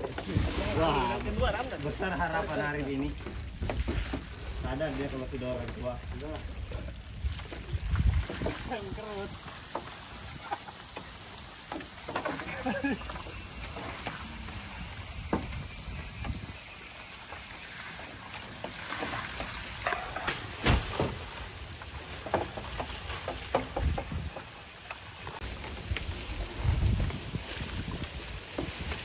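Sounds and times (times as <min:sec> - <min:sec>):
water splashing and dripping: 0:00.0 - 0:29.0.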